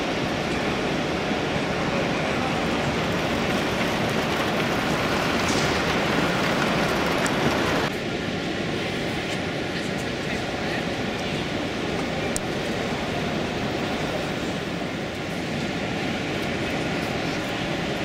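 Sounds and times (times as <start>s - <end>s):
busy exhibition hall noise: 0.0s - 18.0s.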